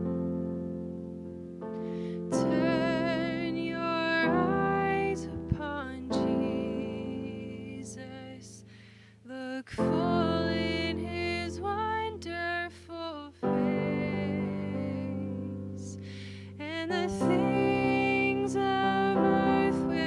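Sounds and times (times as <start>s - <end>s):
electric keyboard chords: 0.0s - 8.1s, 9.8s - 12.6s, 13.4s - 20.0s
woman singing a hymn: 2.0s - 20.0s.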